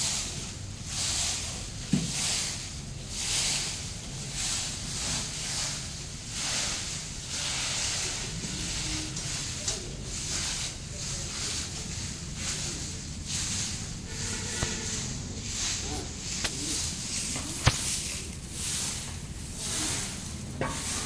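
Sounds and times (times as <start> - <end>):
broom sweeping dirt ground: 0.0 - 21.0.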